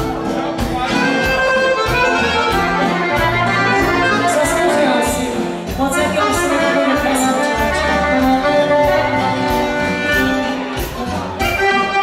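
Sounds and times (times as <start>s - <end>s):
accordion playing folk tune: 0.0s - 12.0s
drums keeping a beat: 0.0s - 12.0s.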